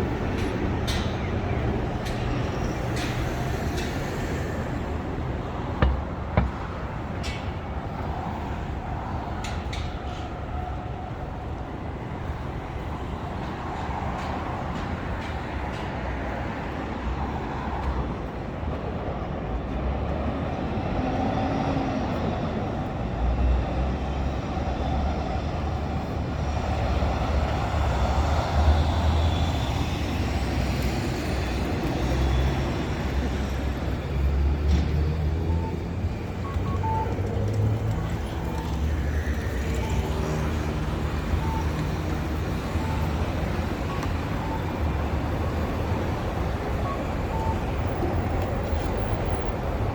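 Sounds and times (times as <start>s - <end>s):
traffic rumble: 0.0s - 49.9s.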